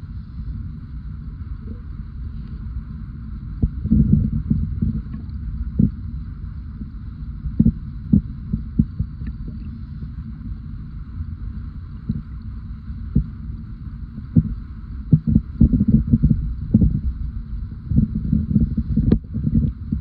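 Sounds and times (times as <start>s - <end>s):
underwater low rumble: 0.0s - 20.0s.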